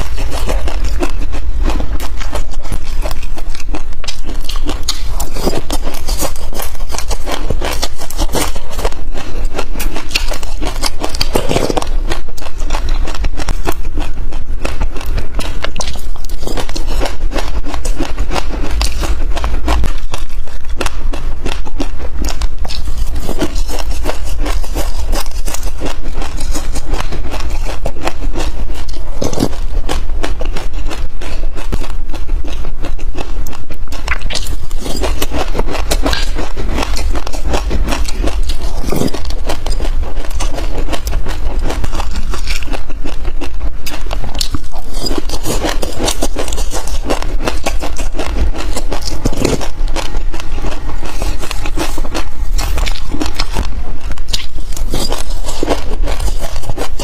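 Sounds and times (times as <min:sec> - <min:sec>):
seeds crunching being chewed: 0:00.0 - 0:57.0
steady low rumble: 0:00.0 - 0:57.0.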